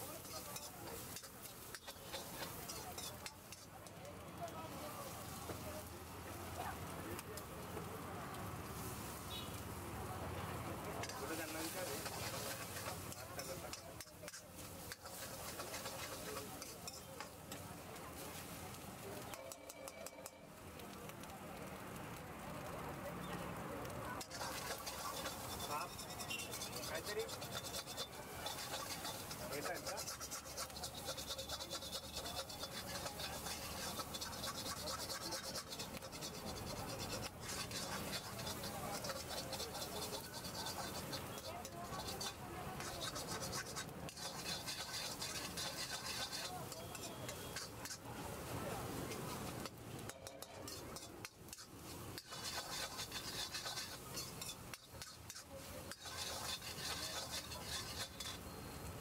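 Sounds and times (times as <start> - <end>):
metal spatula scraping a wok: 0.0 - 5.6, 10.9 - 20.9, 24.0 - 48.4, 49.0 - 59.0.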